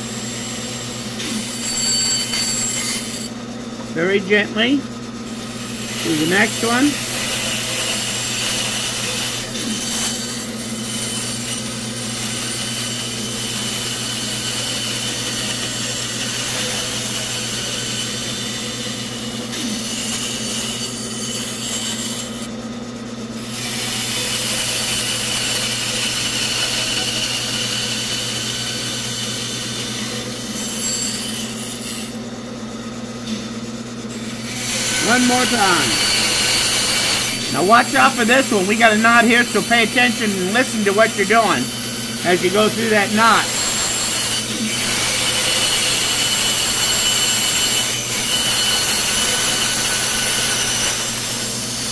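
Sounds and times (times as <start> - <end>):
blade sawing wood: 0.0 - 3.4, 4.0 - 22.5, 23.4 - 32.2, 34.1 - 51.9
bandsaw motor hum: 0.0 - 51.9.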